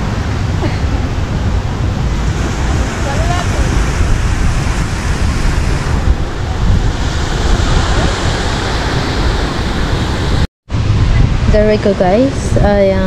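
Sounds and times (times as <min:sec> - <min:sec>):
small waves washing onto sand: 0:00.0 - 0:10.5
wind noise on microphone: 0:00.0 - 0:13.0.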